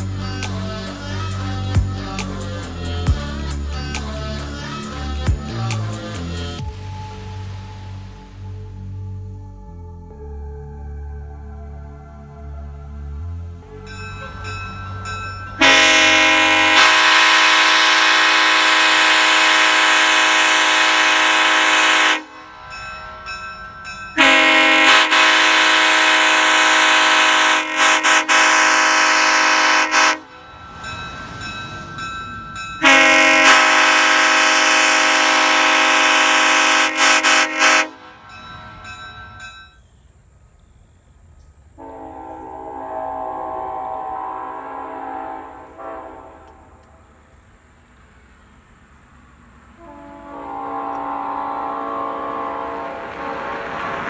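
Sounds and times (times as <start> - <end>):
locomotive air horn chord: 0.0 - 8.1, 12.2 - 31.8, 32.6 - 38.4, 41.8 - 47.4, 49.8 - 54.0.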